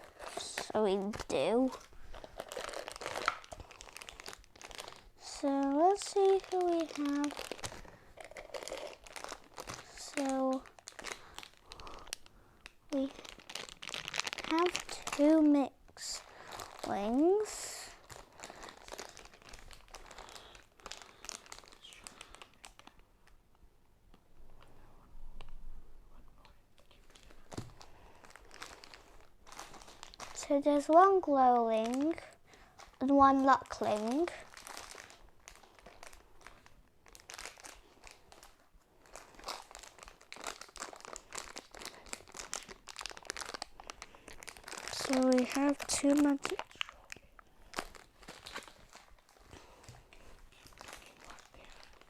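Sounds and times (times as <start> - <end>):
plastic packaging crinkling: 0.0 - 23.0, 26.9 - 52.0.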